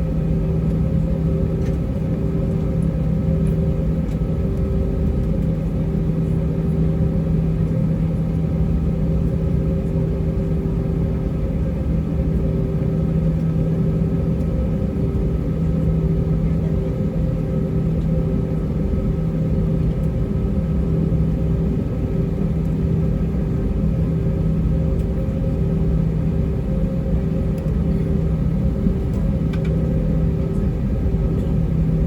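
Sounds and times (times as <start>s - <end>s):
jet engines humming in cabin: 0.0s - 32.0s.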